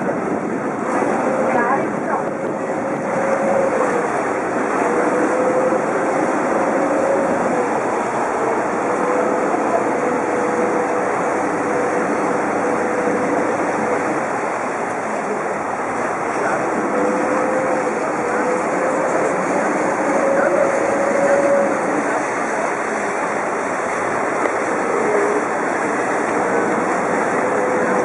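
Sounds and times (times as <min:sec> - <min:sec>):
boat engine hum: 0:00.0 - 0:28.0
water churning along hull: 0:00.0 - 0:28.0.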